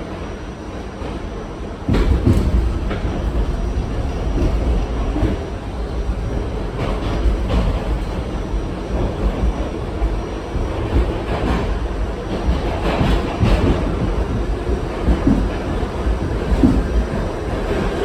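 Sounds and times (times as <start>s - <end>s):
subway car rumbling on rails: 0.0s - 18.0s.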